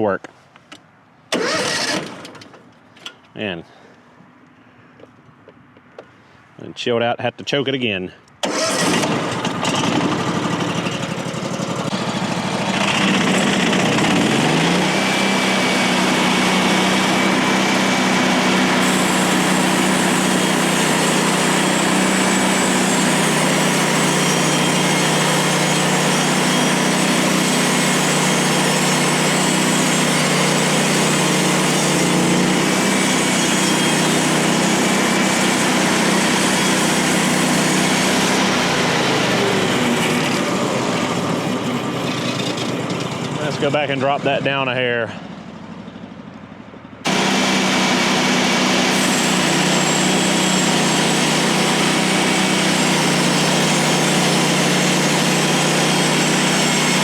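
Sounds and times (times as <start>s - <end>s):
small gas engine revving: 1.3s - 2.5s, 8.4s - 44.6s, 47.0s - 57.0s.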